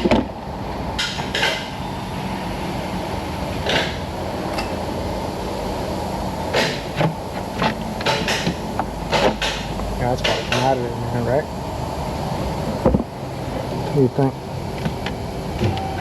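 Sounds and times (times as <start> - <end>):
workshop background hum: 0.0 - 16.0.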